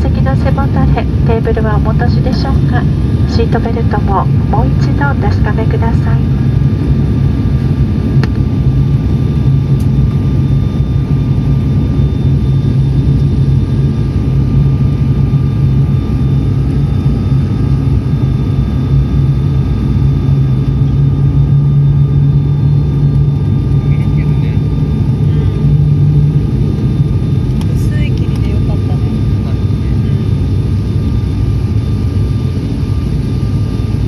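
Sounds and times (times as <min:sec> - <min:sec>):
airliner engines droning: 0:00.0 - 0:34.0.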